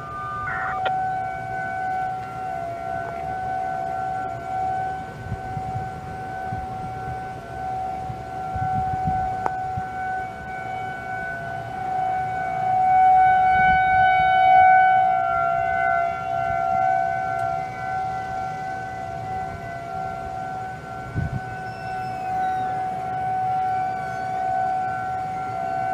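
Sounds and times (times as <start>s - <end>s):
outdoor warning sirens: 0.0s - 25.9s.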